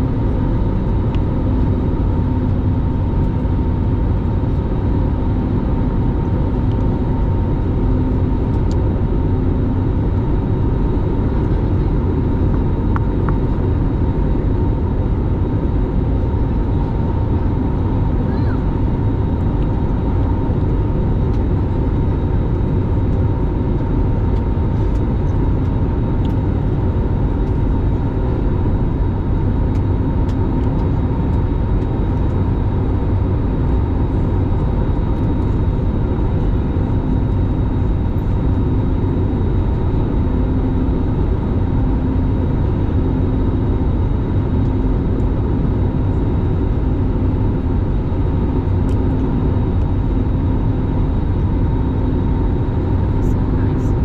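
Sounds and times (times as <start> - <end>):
engine rumble with whining tones: 0.0 - 54.0.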